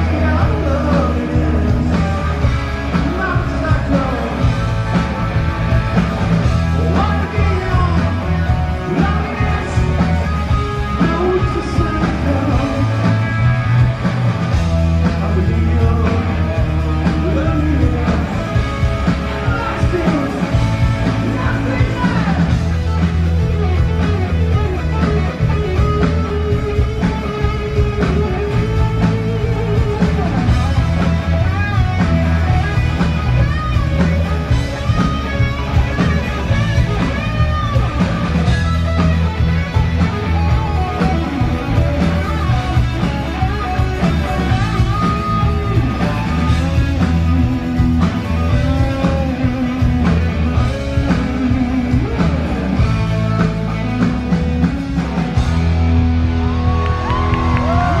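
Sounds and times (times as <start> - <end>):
bass and drums: 0.0 - 58.0
electric guitar: 0.0 - 58.0.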